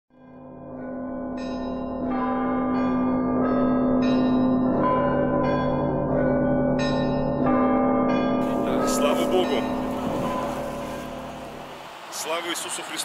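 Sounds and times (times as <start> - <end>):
large bell humming: 0.2 - 12.0
small church bells ringing: 0.2 - 13.0.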